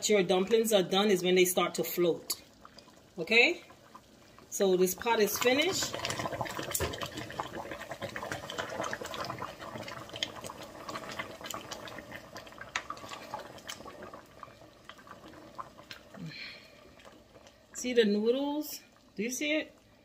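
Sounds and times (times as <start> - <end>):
pot boiling with popping bubbles: 0.0 - 20.0.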